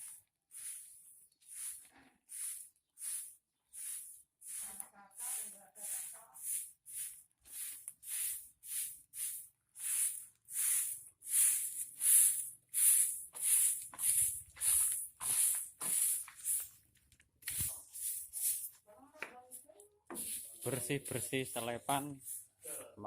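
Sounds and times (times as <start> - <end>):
broom sweeping: 0.0 - 23.0.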